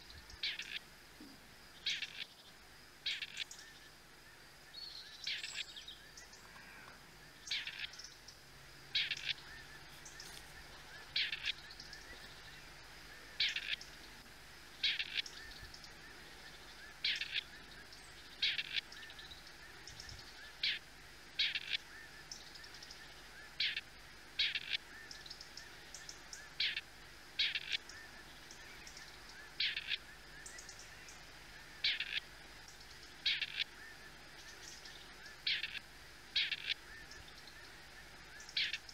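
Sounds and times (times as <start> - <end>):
partridge calling: 0.0 - 2.4, 3.0 - 3.8, 4.9 - 8.3, 8.9 - 38.9.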